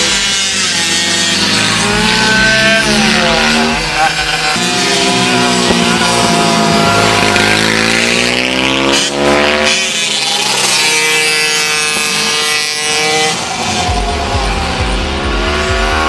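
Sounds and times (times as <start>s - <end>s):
motorcycles accelerating: 0.0s - 16.0s.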